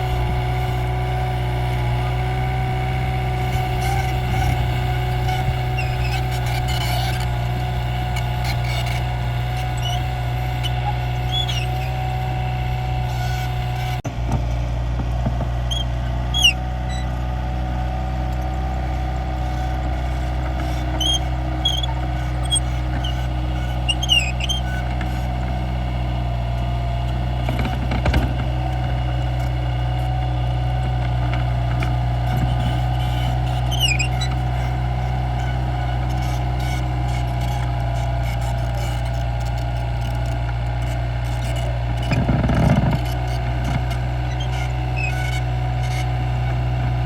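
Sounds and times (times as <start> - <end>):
excavator diesel engine running: 0.0 - 47.0
short high squeaks: 0.1 - 14.0, 15.6 - 17.3, 19.0 - 26.3, 28.6 - 47.0.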